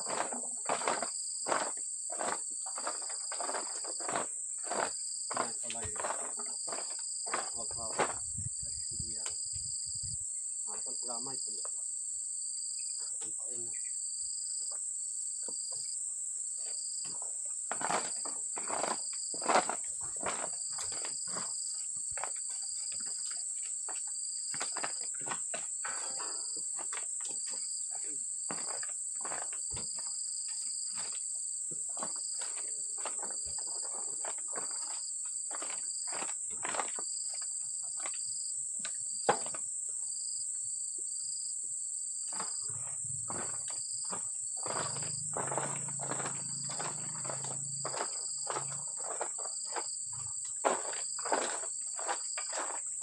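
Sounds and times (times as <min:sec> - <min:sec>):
fruit bunches knocking and rustling: 0:00.0 - 0:09.3, 0:16.7 - 0:39.7, 0:42.3 - 0:53.0
insects buzzing high-pitched: 0:00.0 - 0:53.0
pulsing insect call: 0:00.0 - 0:53.0.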